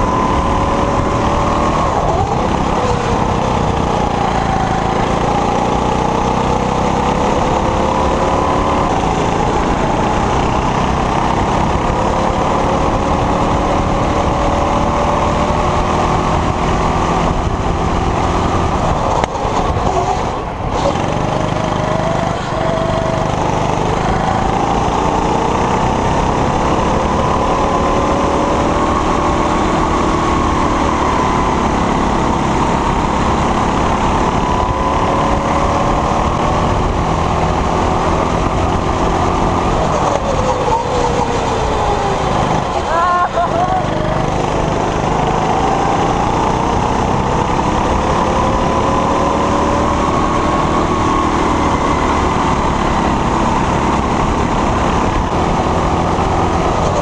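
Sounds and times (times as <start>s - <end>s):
go-kart engine running flat out: 0.0s - 57.0s.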